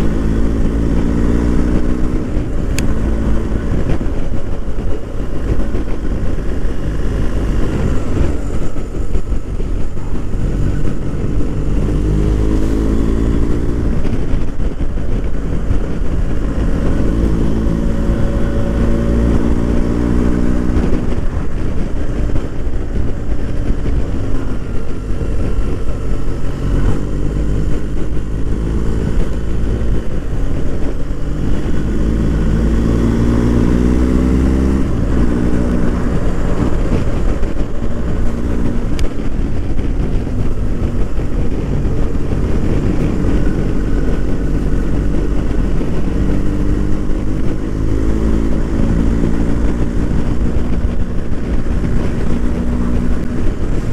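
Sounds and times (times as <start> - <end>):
motorcycle engine revving through gears: 0.0 - 53.9.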